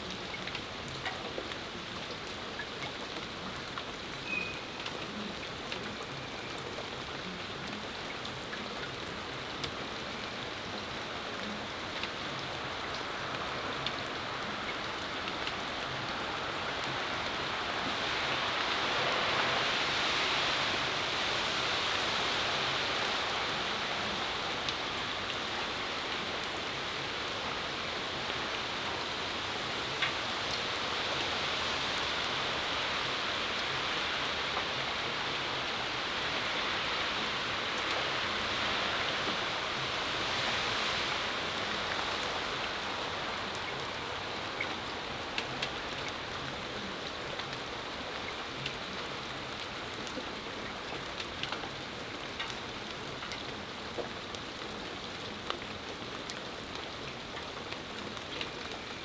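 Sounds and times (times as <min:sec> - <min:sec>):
rain falling on patio: 0:00.0 - 0:59.0.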